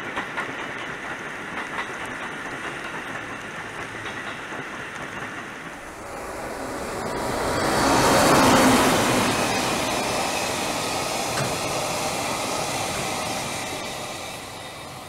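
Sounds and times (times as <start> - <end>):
freight train passing: 0.0 - 15.0.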